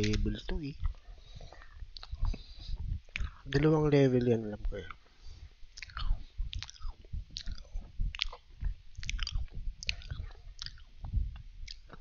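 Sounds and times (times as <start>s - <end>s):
chewing crunchy cookies: 0.0s - 3.7s, 5.7s - 12.0s.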